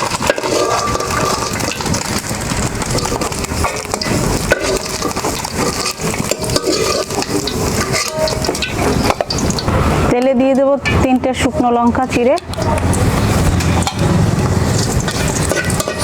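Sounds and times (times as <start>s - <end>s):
hot oil sizzling in a pan: 0.0s - 10.1s, 12.6s - 16.0s
metal spatula scraping a pan: 0.0s - 11.1s, 12.5s - 16.0s.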